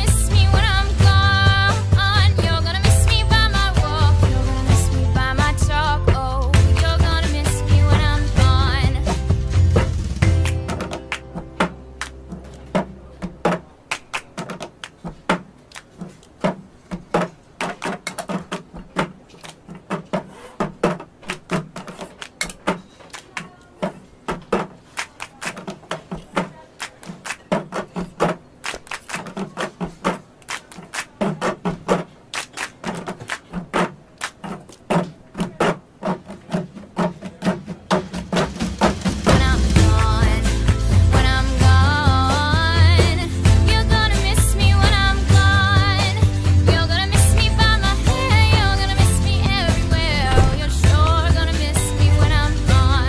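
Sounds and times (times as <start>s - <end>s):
tapping percussion: 0.0s - 53.0s
hand claps: 5.5s - 53.0s.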